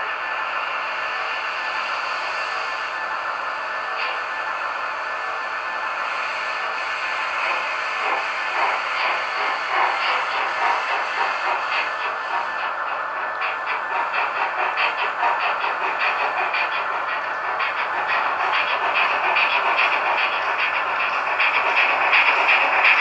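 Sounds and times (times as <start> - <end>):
steam engine sound from loudspeaker: 0.0 - 23.0.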